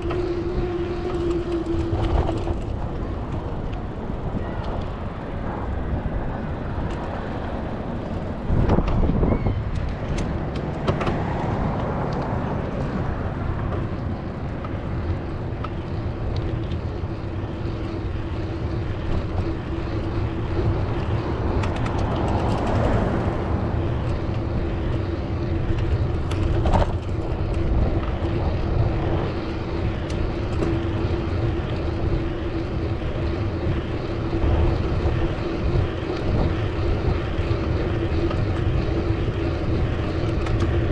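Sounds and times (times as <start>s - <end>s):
steady hum: 0.0s - 8.7s, 12.8s - 40.9s
road noise rumble: 0.0s - 40.9s
vehicles passing: 0.0s - 40.9s.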